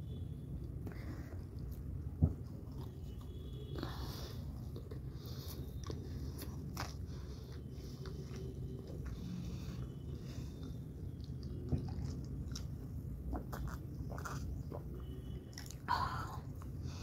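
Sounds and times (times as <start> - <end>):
person chewing french fries: 1.1 - 17.0.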